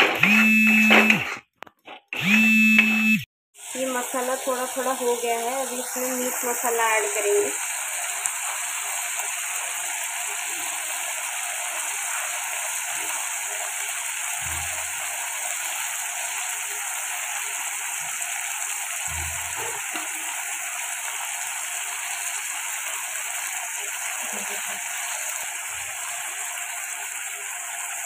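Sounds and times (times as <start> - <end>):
paste sizzling in a pan: 3.6 - 28.0.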